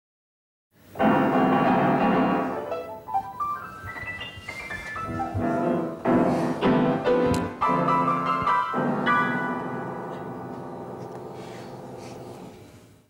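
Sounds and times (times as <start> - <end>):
upright piano playing: 1.0 - 12.5.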